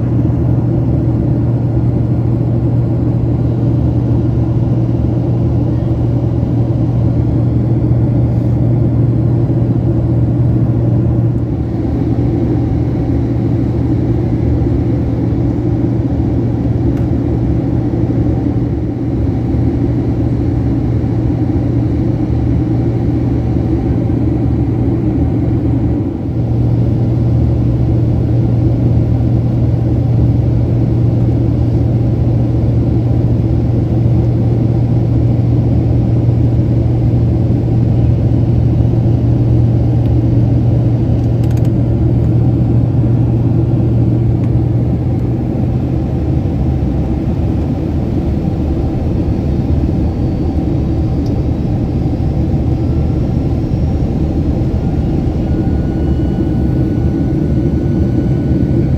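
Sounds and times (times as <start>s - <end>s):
airliner cabin engine rumble: 0.0s - 58.9s.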